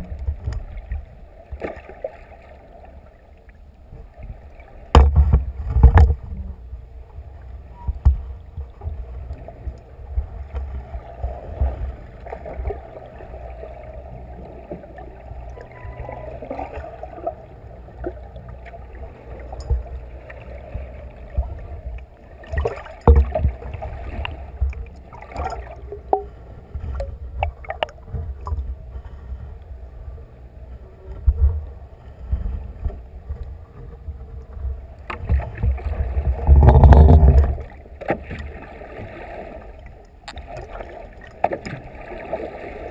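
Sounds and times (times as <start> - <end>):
underwater rumble of moving water: 0.0 - 42.9.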